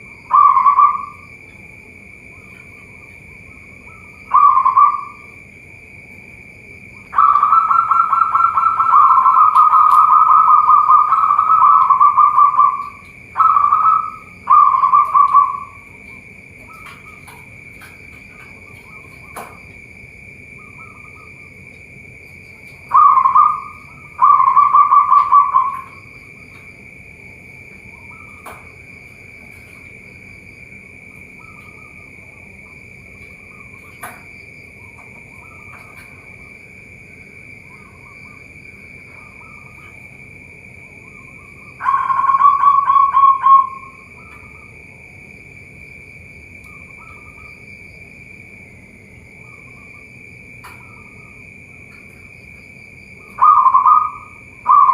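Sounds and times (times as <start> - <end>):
doves cooing: 0.0 - 6.0, 6.7 - 45.0, 48.8 - 54.9
steady high buzz: 0.0 - 54.9.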